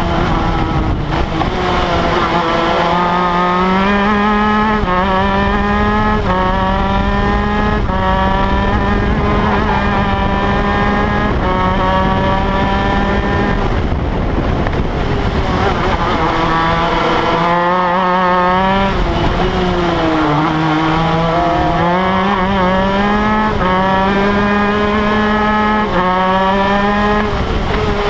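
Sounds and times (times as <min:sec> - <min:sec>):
kart engine at full throttle: 0:00.0 - 0:28.0.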